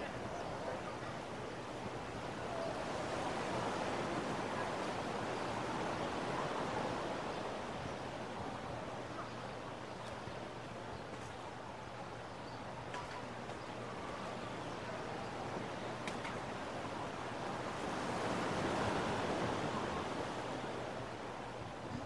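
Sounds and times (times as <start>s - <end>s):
ocean waves washing on beach: 0.0s - 22.0s.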